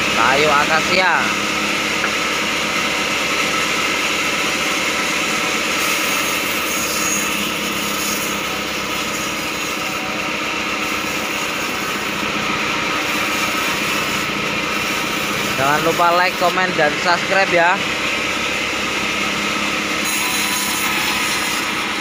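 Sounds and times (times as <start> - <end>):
band saw cutting wood: 0.0 - 22.0.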